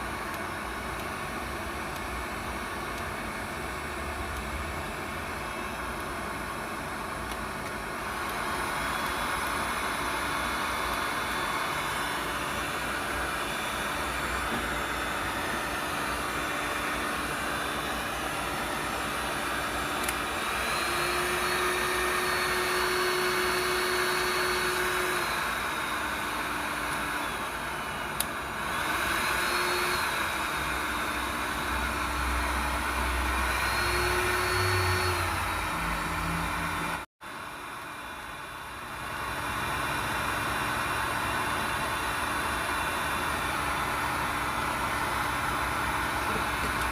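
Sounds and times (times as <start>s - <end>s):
heat gun blower whirring: 0.0s - 46.9s.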